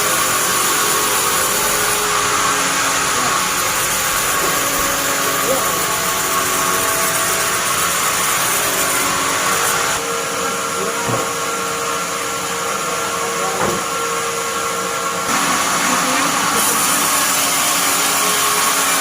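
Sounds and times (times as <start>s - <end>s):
bandsaw running with hiss and hum: 0.0s - 19.0s.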